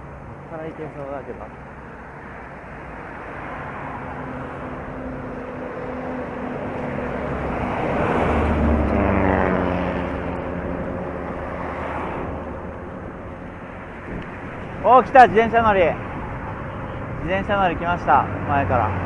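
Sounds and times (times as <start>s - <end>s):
bus passing by: 0.0s - 19.0s
traffic noise: 0.0s - 19.0s.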